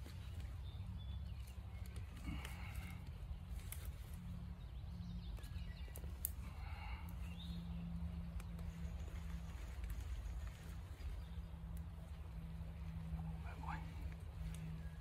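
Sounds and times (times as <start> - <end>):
leaves rustling: 0.0 - 4.6, 5.3 - 15.0
scraping and snapping in soil: 0.0 - 7.5, 8.2 - 13.2, 14.0 - 15.0
birds calling: 0.0 - 15.0
steady low rumble: 0.0 - 15.0.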